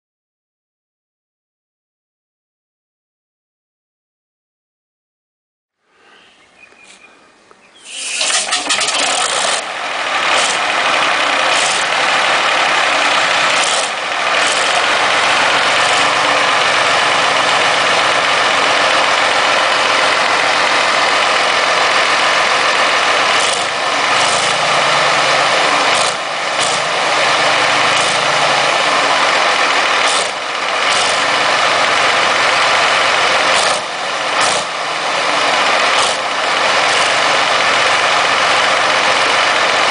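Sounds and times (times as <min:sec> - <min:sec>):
diesel engine starting and running: 0:05.8 - 0:39.9.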